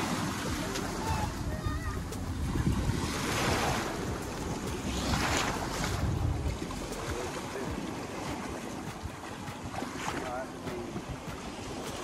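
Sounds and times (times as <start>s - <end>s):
surf washing around legs: 0.0s - 12.0s
wind buffeting microphone: 0.0s - 12.0s.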